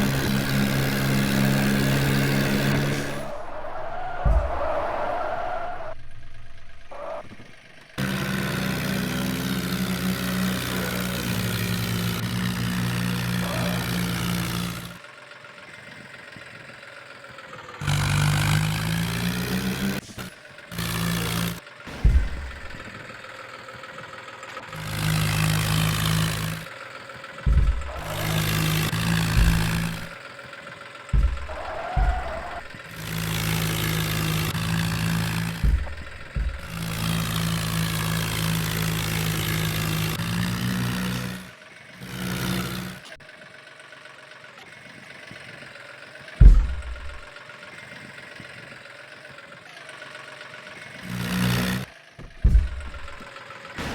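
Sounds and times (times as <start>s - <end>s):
tractor engine revving: 0.0s - 53.9s.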